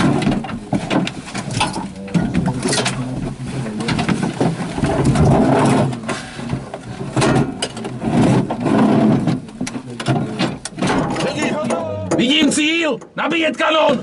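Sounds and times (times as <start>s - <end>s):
rattles and knocks from hull: 0.0s - 13.2s.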